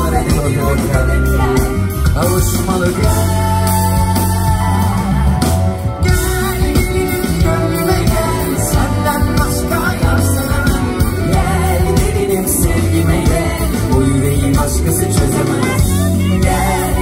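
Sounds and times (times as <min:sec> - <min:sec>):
live pop band music: 0:00.0 - 0:17.0.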